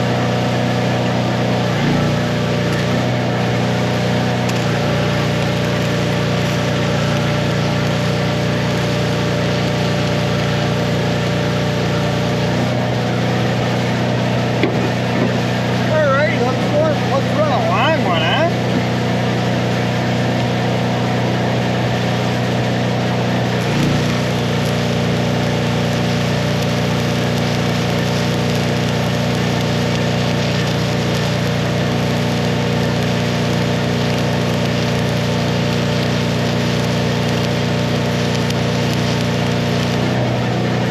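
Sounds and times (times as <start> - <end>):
welder engine droning: 0.0 - 40.9.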